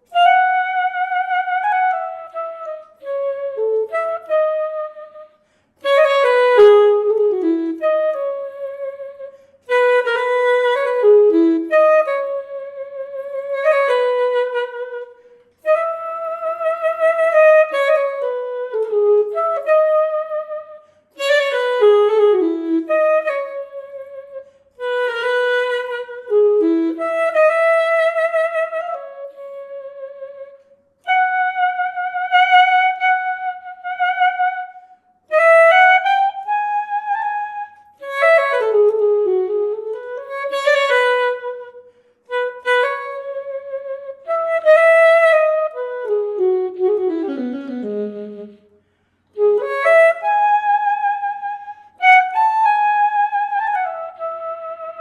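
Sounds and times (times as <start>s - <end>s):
saxophone solo melody: 0.0s - 55.0s.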